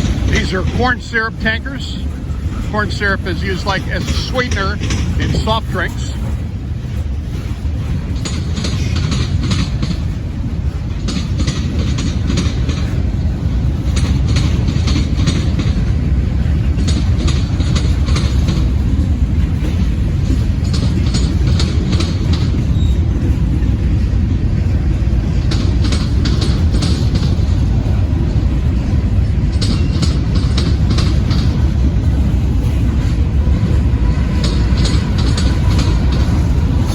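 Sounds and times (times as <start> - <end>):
freight train rumble: 0.0 - 36.9
train wheels clicking over rail joints: 0.0 - 36.9.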